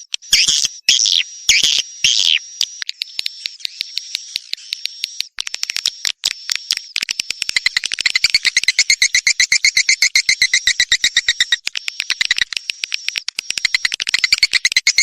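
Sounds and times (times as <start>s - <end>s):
swiftlet chirps and twitter: 0.0s - 15.0s
rapid clicking chatter: 2.1s - 15.0s.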